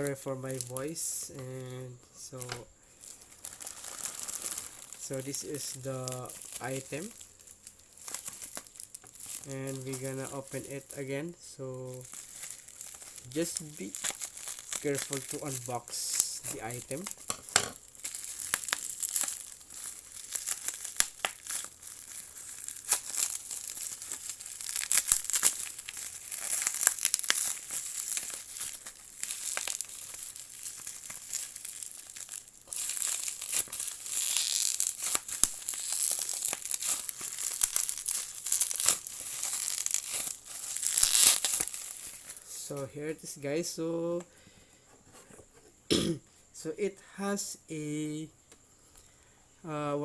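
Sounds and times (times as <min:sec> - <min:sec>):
packaging crinkling and tearing: 0:00.0 - 0:43.4.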